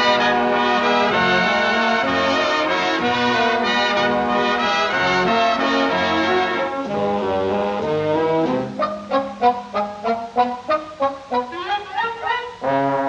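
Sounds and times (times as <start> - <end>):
brass orchestral cartoon music: 0.0 - 13.0.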